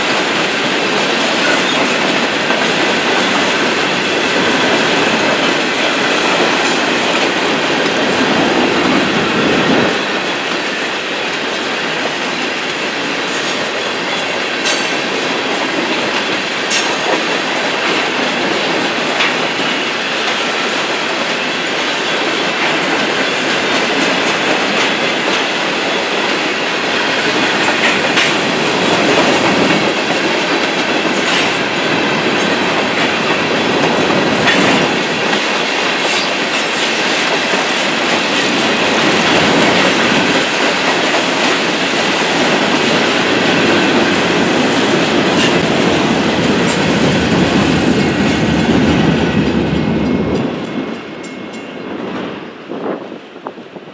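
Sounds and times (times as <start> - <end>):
steel wheels clacking on rail joints: 0.0 - 52.3
freight train rolling past: 0.0 - 53.9.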